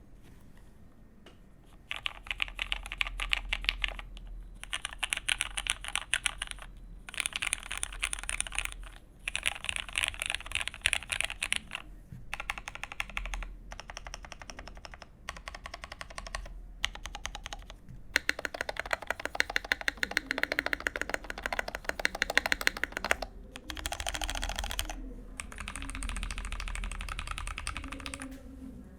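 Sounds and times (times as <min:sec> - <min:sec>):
mechanical keyboard typing: 0:01.8 - 0:28.4.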